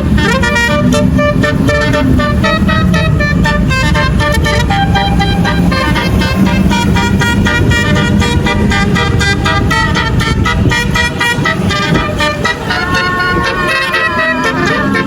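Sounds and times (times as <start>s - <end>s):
low engine rumble: 0.0s - 15.0s
musical bus horn melody: 0.0s - 15.0s.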